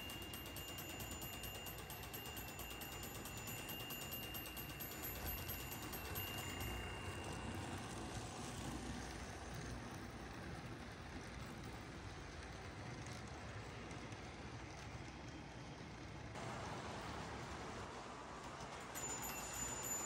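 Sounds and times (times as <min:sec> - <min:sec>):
model locomotive motor whirring: 0:00.0 - 0:16.3, 0:18.4 - 0:20.0
model freight cars rolling: 0:00.0 - 0:20.0.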